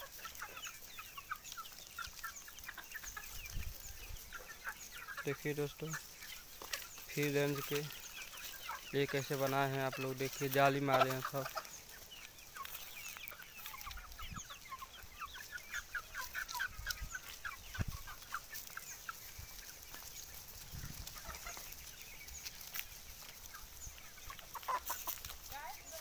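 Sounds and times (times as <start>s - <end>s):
chickens clucking and calling: 0.0s - 26.0s.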